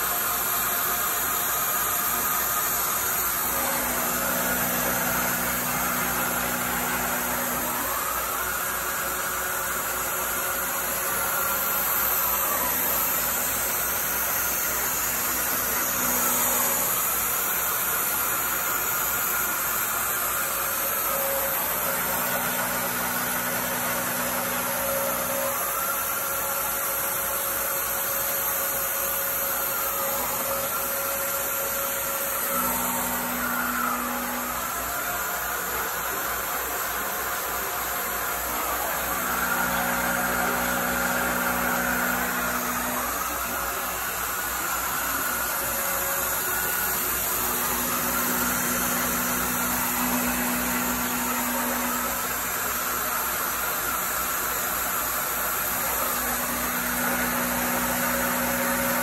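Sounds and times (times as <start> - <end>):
milling machine cutting metal: 0.0 - 59.0.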